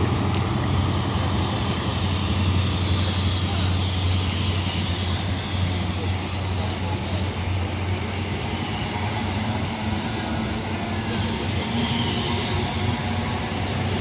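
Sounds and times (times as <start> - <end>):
passing train drone: 0.0 - 14.0
train wheels rumbling on track: 0.0 - 14.0.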